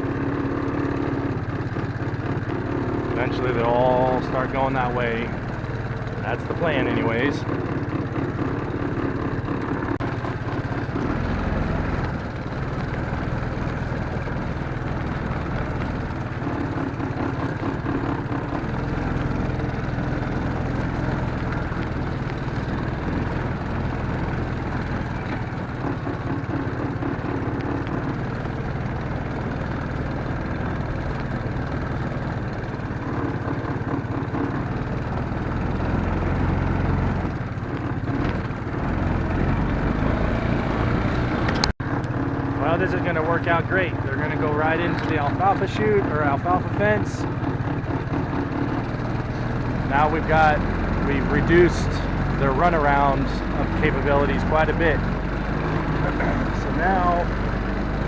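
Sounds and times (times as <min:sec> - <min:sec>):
vehicle engine running at low speed: 0:00.0 - 0:58.0.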